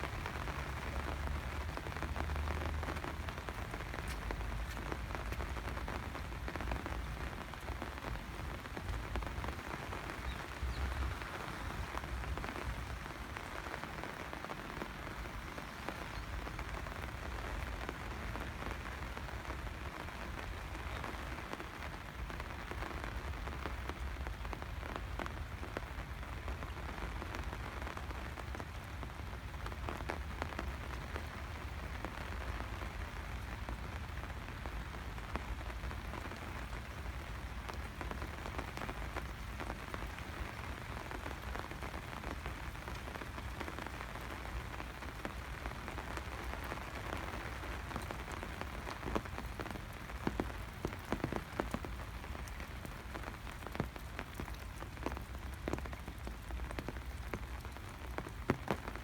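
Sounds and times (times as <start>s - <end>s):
rain patter: 0.0s - 59.0s
raindrops ticking sharply: 0.0s - 59.0s.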